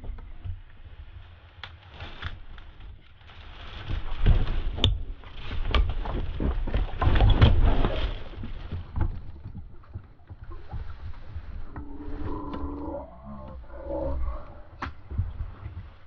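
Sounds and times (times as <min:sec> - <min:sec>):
water splashing and sloshing: 0:00.1 - 0:16.0.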